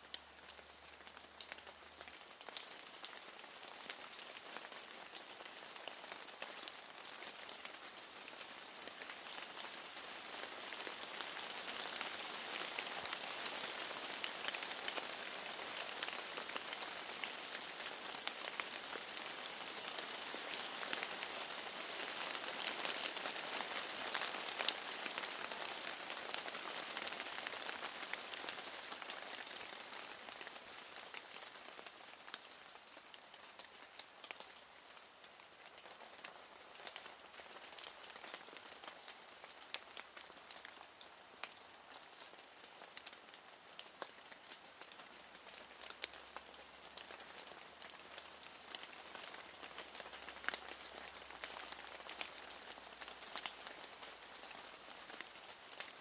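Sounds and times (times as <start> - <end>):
rain drops ticking: 0.0 - 56.0.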